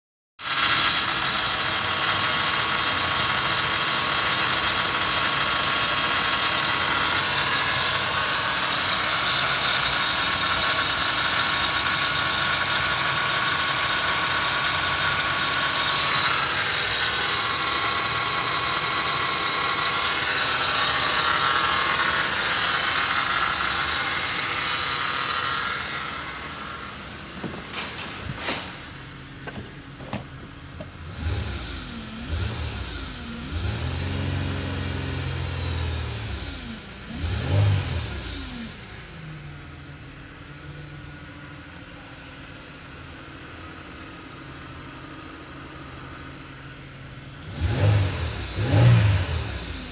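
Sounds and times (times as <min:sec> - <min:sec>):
car engine idling: 0:00.4 - 0:37.1, 0:38.3 - 0:49.9.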